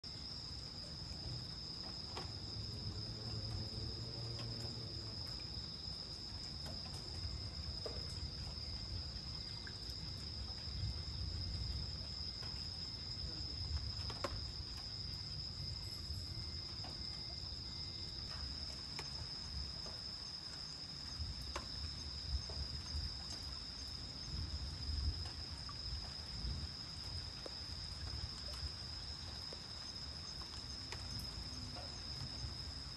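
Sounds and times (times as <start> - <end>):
night insects droning: 0.0 - 32.9.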